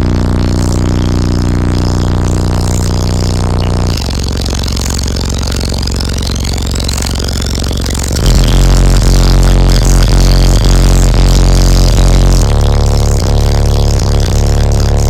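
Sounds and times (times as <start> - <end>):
deep held bass notes: 0.0 - 15.0
loud music through subwoofers: 0.0 - 15.0.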